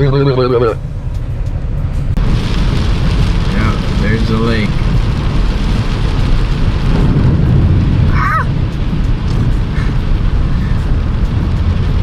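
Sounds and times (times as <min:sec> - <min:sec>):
vehicle low rumble: 0:00.0 - 0:12.0
water rushing and spraying: 0:02.2 - 0:12.0.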